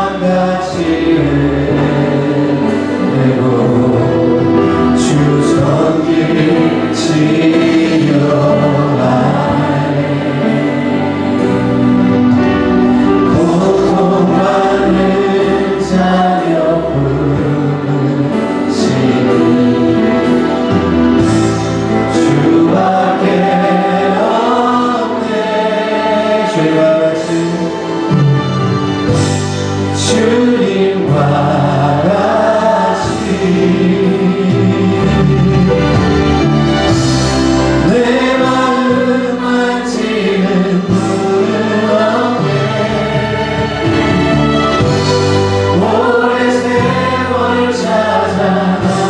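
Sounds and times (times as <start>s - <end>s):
steady bass line: 0.0s - 25.4s, 27.5s - 49.0s
congregation singing a worship song: 0.0s - 49.0s
musical accompaniment: 0.0s - 49.0s.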